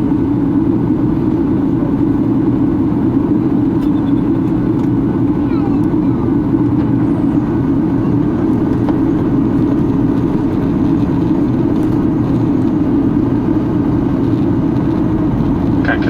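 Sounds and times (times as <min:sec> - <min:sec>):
airflow over fuselage: 0:00.0 - 0:16.0
jet engine cabin drone: 0:00.0 - 0:16.0
low rumble: 0:00.0 - 0:16.0.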